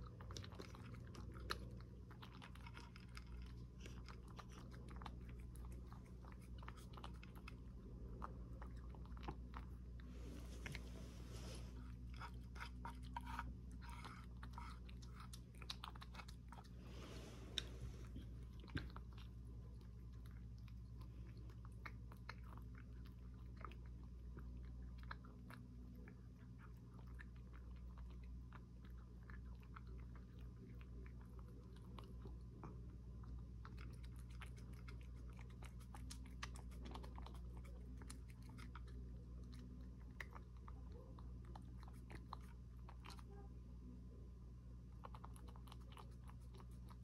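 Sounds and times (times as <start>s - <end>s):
cat chewing food: 0.0s - 47.0s
faint low hum: 0.0s - 47.0s.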